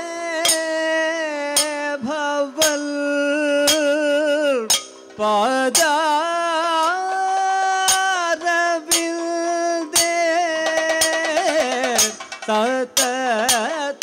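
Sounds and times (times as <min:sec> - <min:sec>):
man singing long gliding notes: 0:00.0 - 0:14.0
sharp percussive stroke: 0:00.4 - 0:00.9, 0:01.5 - 0:14.0.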